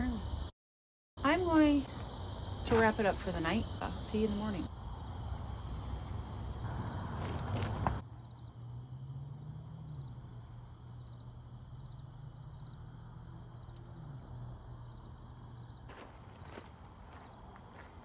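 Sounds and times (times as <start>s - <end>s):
insects chirping: 0.0s - 0.5s, 1.2s - 18.0s
steady low hum: 1.2s - 18.0s.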